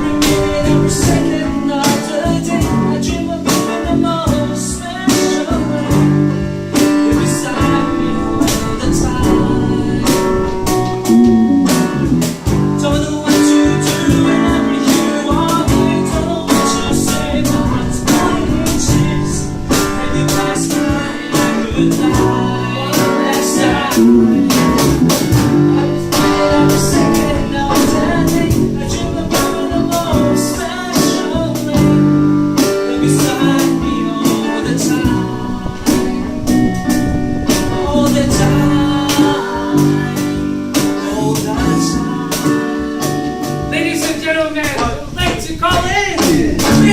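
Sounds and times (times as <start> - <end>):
guitar: 0.0 - 46.9
person singing: 0.0 - 46.9
steady drum beat: 0.0 - 46.9.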